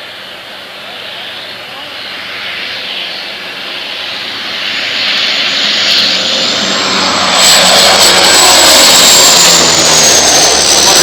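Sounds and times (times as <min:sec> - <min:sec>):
loud engine approaching: 0:00.9 - 0:11.0.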